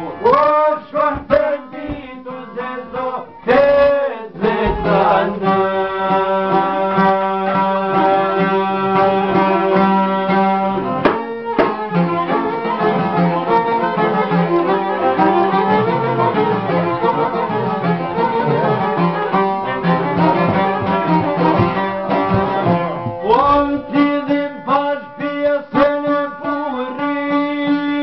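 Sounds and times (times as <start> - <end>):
folk singing: 0.0 - 28.0
plucked lutes: 0.0 - 28.0.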